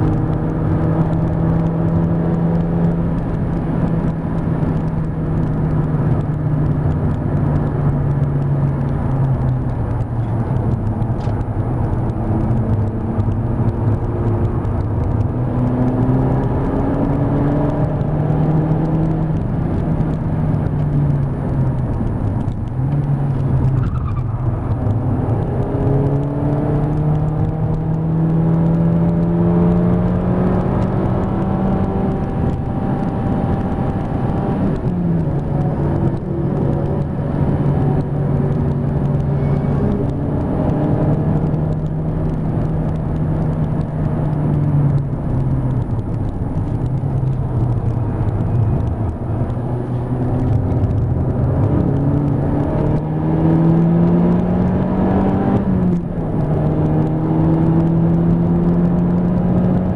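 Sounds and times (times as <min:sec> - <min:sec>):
car engine under hard driving: 0:00.0 - 0:59.9
road and wind noise: 0:00.0 - 0:59.9.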